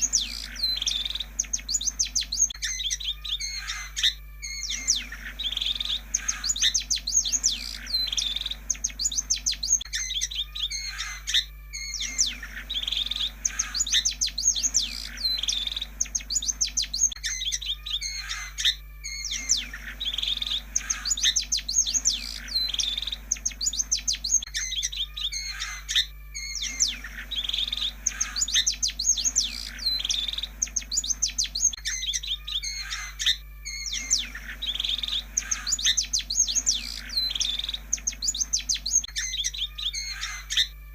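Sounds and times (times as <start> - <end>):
shrike chattering song: 0.0 - 40.8
faint steady hum: 0.0 - 40.9.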